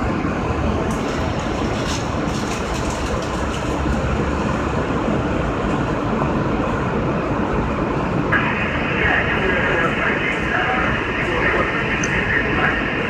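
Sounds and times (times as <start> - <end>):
subway car rumble and hum: 0.0 - 13.0.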